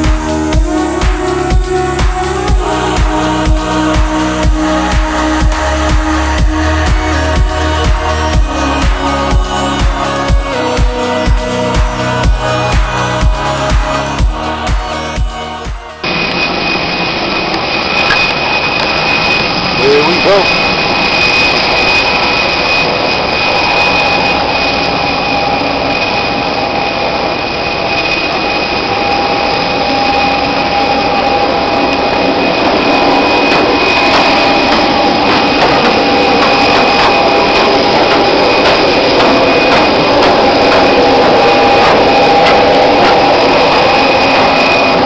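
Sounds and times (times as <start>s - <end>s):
high held tones: 0.0s - 25.0s, 29.2s - 45.0s
jet aircraft machinery whine: 0.0s - 45.0s.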